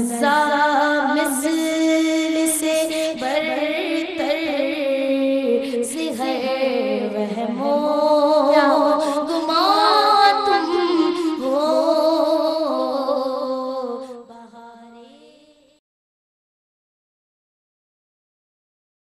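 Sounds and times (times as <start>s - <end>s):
woman singing slow melody: 0.0s - 15.7s.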